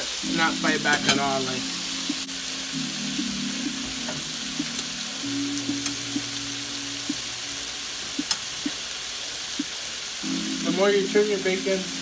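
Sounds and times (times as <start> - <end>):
bacon sizzling in oil: 0.0 - 12.0.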